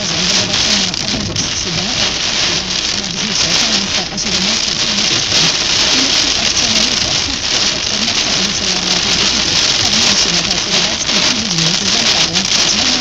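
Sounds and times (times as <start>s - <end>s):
heavy rain on car windscreen: 0.0s - 13.0s.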